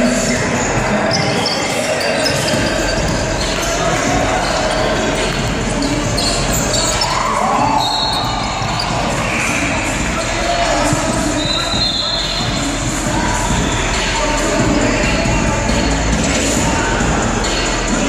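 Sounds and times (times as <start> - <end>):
indistinct voices calling out: 0.0 - 18.0
sneakers squeaking: 0.1 - 17.0.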